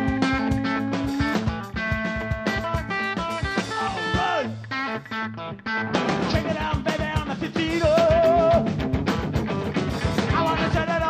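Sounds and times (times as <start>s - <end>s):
drum beat: 0.0s - 4.8s, 6.0s - 11.0s
electric guitar: 0.0s - 11.0s.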